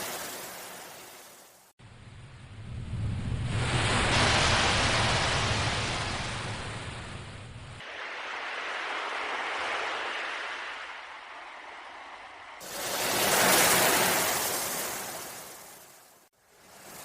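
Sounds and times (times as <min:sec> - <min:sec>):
ocean waves breaking: 0:00.0 - 0:01.5, 0:03.0 - 0:17.0.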